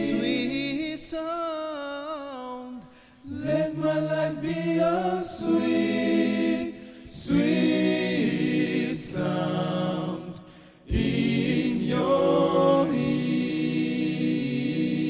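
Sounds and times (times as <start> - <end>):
male a cappella group singing: 0.0 - 15.0.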